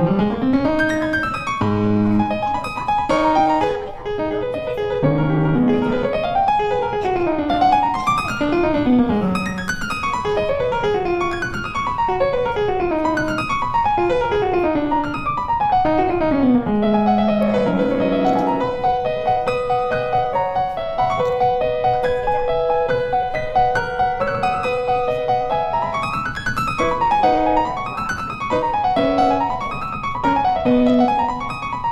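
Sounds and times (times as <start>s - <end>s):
piano music with quick runs: 0.0s - 31.9s.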